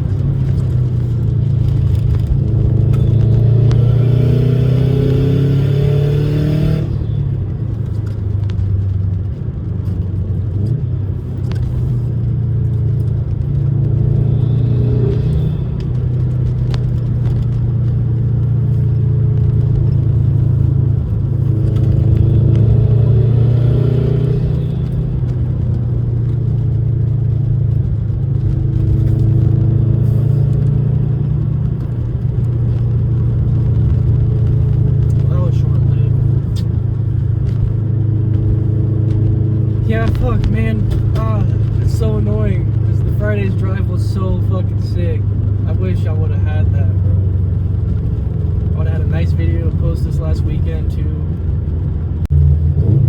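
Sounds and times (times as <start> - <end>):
car engine running from inside cabin: 0.0 - 53.0.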